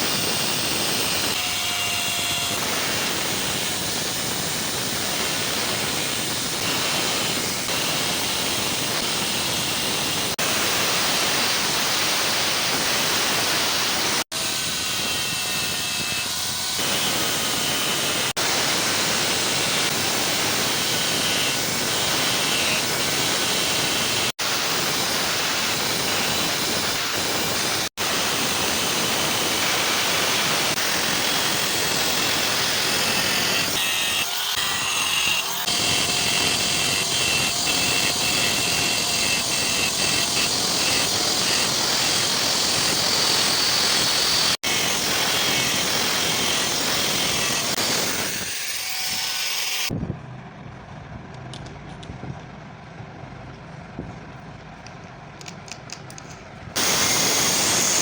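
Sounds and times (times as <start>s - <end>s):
power tool grinding: 0.0s - 50.0s, 55.4s - 58.0s.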